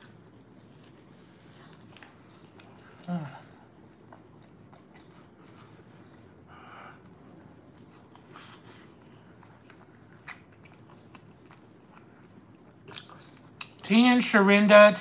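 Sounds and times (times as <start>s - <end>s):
person chewing food: 0.0s - 13.8s.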